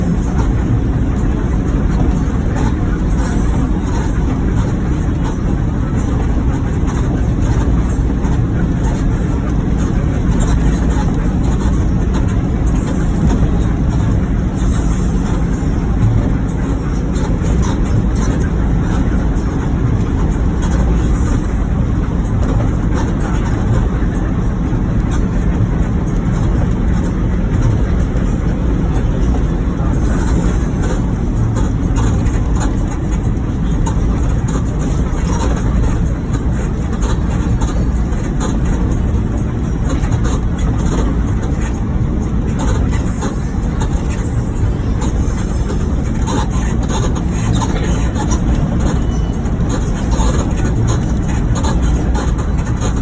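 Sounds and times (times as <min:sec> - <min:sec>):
bus engine rumble: 0:00.0 - 0:53.0
road noise: 0:00.0 - 0:53.0.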